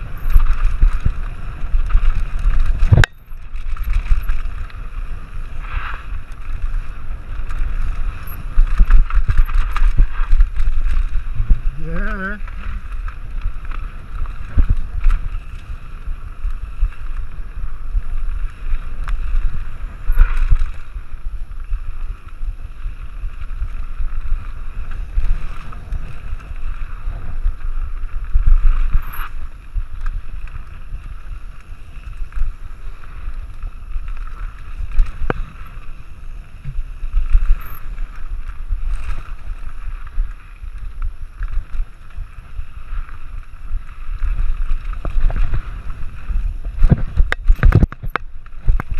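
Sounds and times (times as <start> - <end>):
bike rattling: 0.0 - 48.9
wind buffeting microphone: 0.0 - 48.9.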